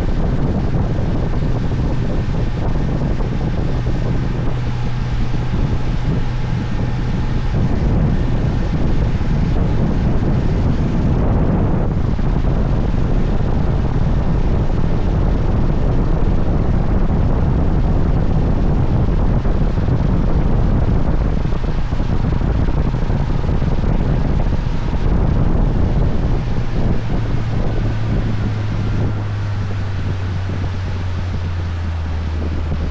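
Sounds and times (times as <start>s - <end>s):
boat motor running: 0.0s - 32.9s
wind buffeting microphone: 0.0s - 32.9s.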